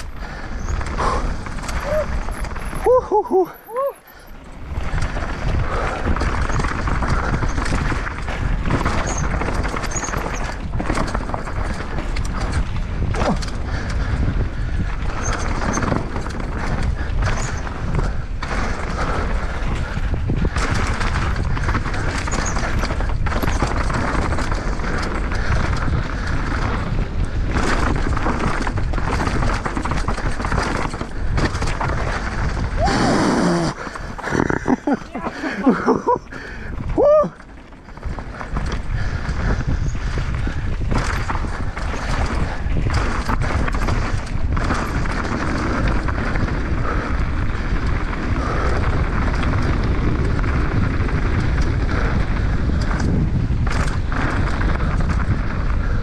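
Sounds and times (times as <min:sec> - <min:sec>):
wind on microphone: 0:00.0 - 0:04.0, 0:04.6 - 0:56.0
bike frame and chain rattling: 0:00.0 - 0:56.0
bike tyres on dirt and rocks: 0:00.0 - 0:56.0.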